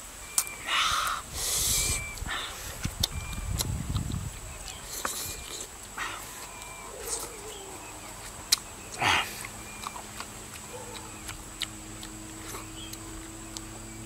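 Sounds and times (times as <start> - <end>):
faint low hum: 0.0 - 14.0
mouth clicks and lip smacks: 0.3 - 7.4, 8.2 - 13.7.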